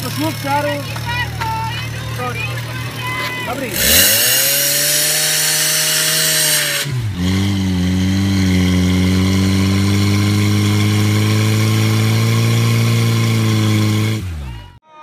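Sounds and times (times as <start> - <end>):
small pump engine running hard: 0.0 - 14.7.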